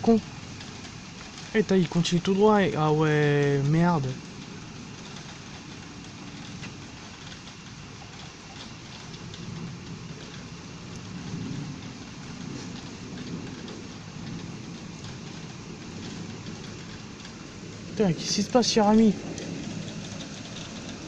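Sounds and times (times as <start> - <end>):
low rumble of thunder: 0.0 - 21.0
raindrop clicks close by: 0.0 - 21.0
steady rain falling: 0.0 - 21.0.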